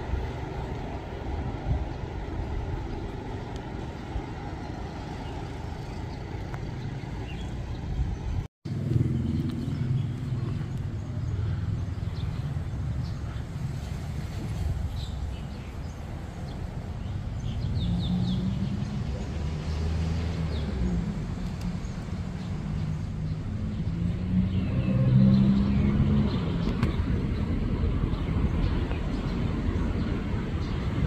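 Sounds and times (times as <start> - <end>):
engine rumbling: 0.0 - 31.0
birds chirping: 0.2 - 31.0.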